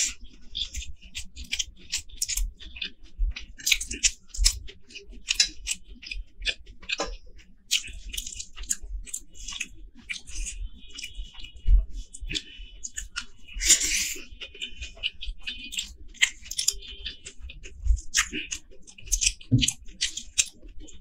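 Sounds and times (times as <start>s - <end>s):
chewing with wet clicks: 0.0s - 21.0s
fingers working food on a plate: 0.0s - 21.0s.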